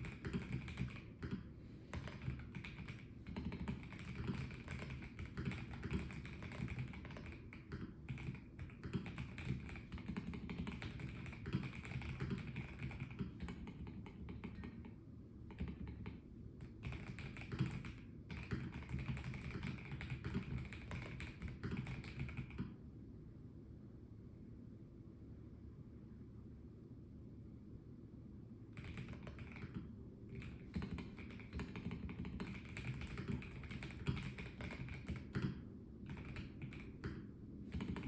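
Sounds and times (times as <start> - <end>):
rapid typing on mechanical keyboard: 0.0 - 22.8, 28.8 - 38.0.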